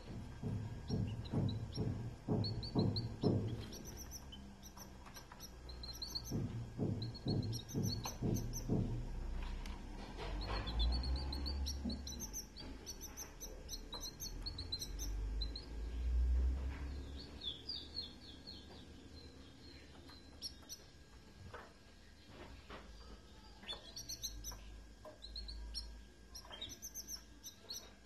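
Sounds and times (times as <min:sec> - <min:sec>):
canaries chirping: 0:00.0 - 0:22.8, 0:23.4 - 0:28.0.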